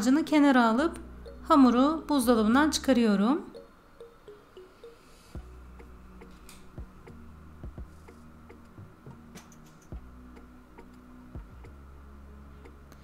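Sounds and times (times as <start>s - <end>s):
soft low background music: 0.0s - 13.0s.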